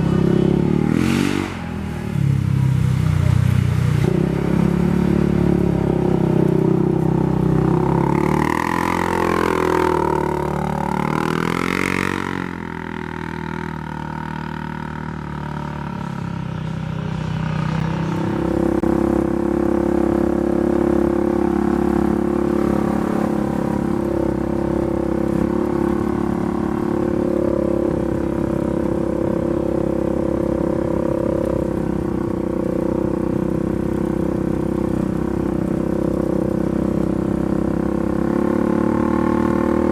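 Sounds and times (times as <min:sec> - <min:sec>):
single-cylinder engine revving and idling: 0:00.0 - 0:39.9.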